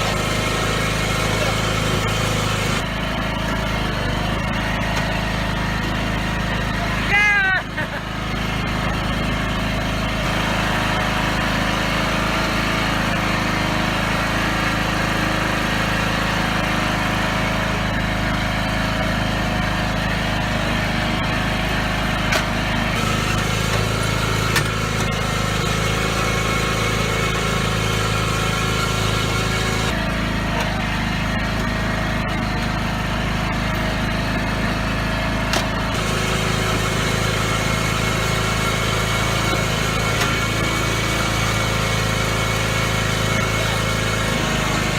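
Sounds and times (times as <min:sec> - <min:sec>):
lawn mower engine running: 0:00.0 - 0:44.9.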